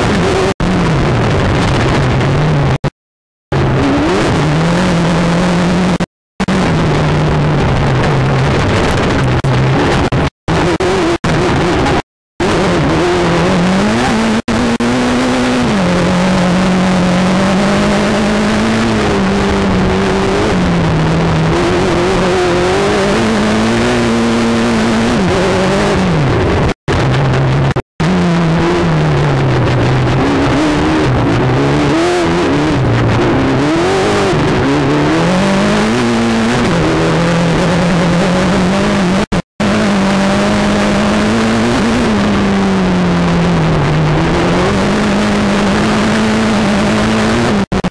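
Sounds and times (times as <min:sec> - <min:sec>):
car engine racing through gears: 0:00.0 - 0:47.9
road and wind noise: 0:00.0 - 0:47.9.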